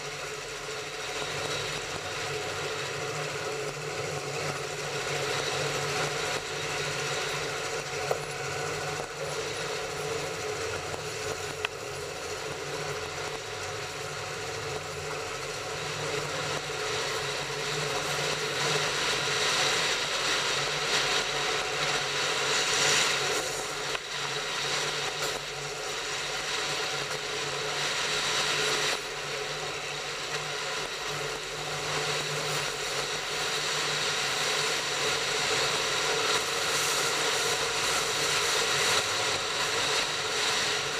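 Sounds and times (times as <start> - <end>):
train wheels rumbling and rattling: 0.0 - 40.9.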